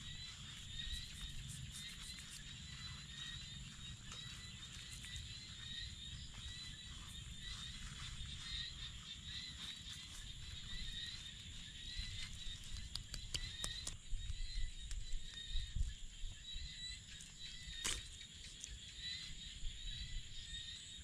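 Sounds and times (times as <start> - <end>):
high pulsing animal calls: 0.0 - 21.0.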